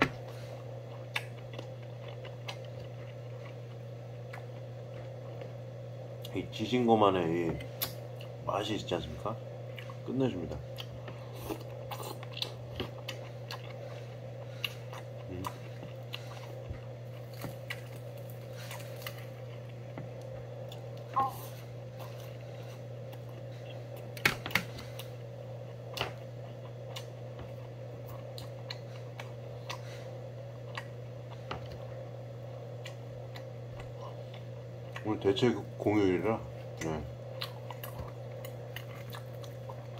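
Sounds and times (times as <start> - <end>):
steady low hum: 0.0 - 39.9
chewing: 0.8 - 5.6, 9.7 - 10.1, 10.7 - 31.9, 32.7 - 35.2, 36.8 - 39.9.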